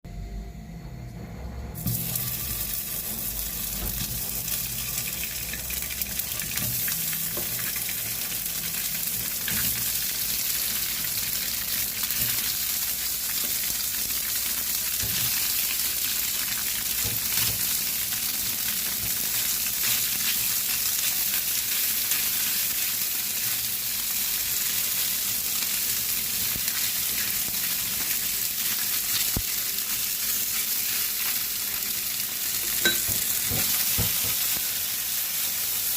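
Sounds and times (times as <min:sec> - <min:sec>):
food sizzling in hot oil: 0:01.8 - 0:35.9.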